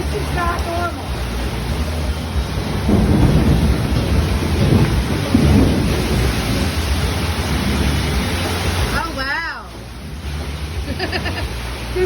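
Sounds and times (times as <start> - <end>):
thunder rumbling: 0.0 - 11.6
heavy rain downpour: 0.0 - 12.0.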